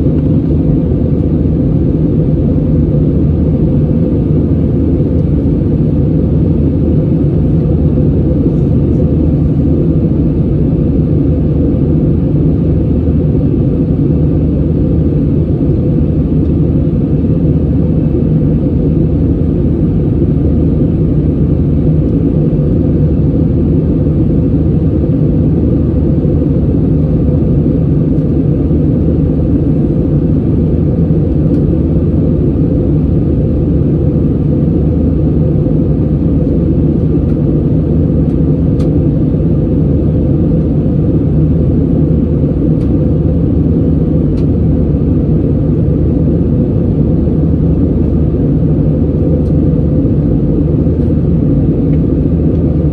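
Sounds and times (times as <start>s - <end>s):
airliner cabin noise: 0.0s - 52.9s.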